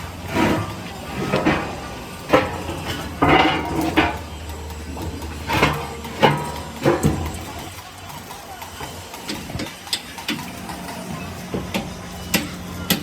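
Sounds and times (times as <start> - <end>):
low machine hum: 0.0 - 13.0
steel parts clanking and scraping: 0.0 - 13.0.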